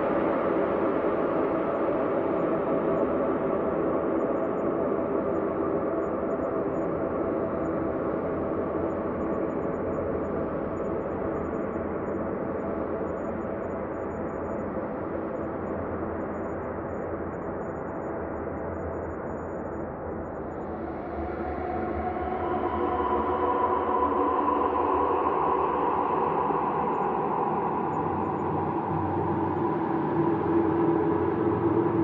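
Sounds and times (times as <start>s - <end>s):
ambient drone of held tones: 0.2s - 32.0s.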